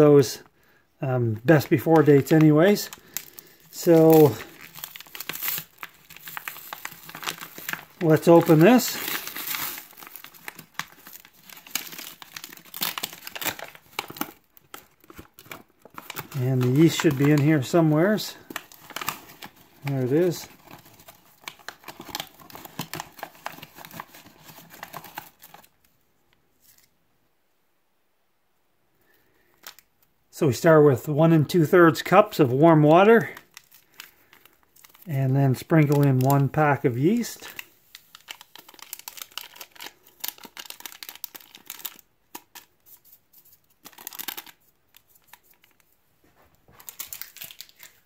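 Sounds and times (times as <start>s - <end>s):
plastic bag crinkling: 1.5s - 25.8s, 32.9s - 48.0s.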